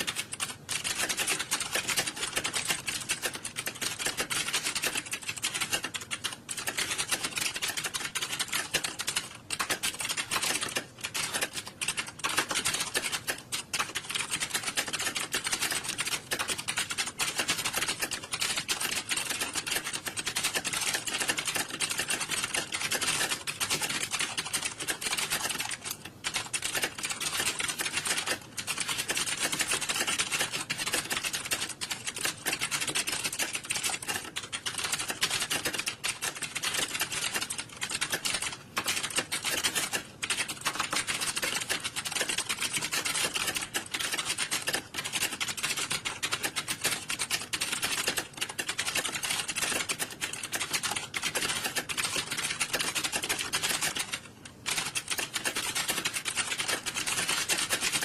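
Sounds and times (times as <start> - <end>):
keyboards typing clatter: 0.0 - 58.0.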